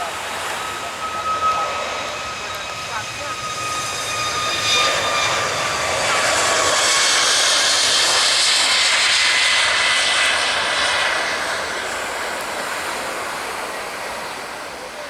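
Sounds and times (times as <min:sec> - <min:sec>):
airliner engine noise: 0:00.0 - 0:15.0
high engine whine: 0:00.0 - 0:15.0.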